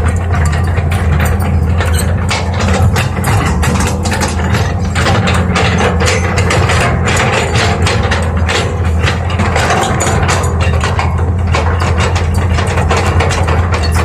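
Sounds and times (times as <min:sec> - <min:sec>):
excavator engine running: 0:00.0 - 0:14.0
metallic clicks and clanks: 0:00.0 - 0:14.0.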